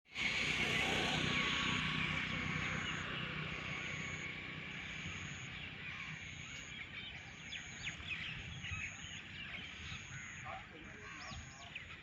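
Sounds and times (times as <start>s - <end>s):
steady outdoor hiss: 0.1s - 12.0s
birds chirping: 0.2s - 12.0s.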